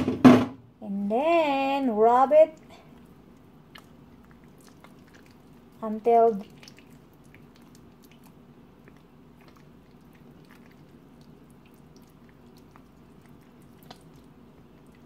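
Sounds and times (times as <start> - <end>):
steady low hum: 0.6 - 15.0
hands squishing raw chicken: 2.7 - 15.0.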